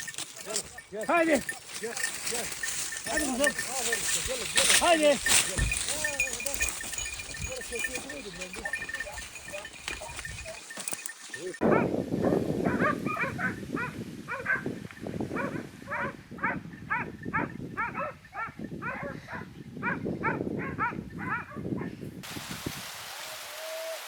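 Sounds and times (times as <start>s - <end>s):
dogs barking: 0.0s - 14.7s, 15.4s - 21.6s.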